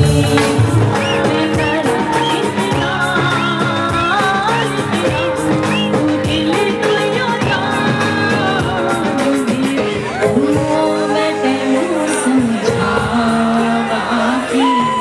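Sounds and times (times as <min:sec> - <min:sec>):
band with steady beat: 0:00.0 - 0:15.0
woman singing: 0:00.0 - 0:15.0.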